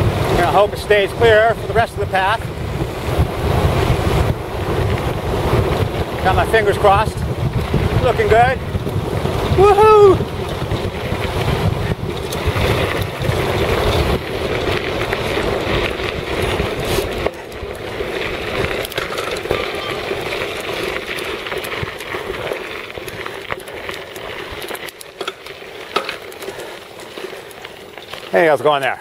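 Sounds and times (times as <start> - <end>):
wind rumbling on microphone: 0.0 - 28.3
bike clicks and rattles: 0.0 - 29.0
tyres crunching on gravel: 0.0 - 29.0.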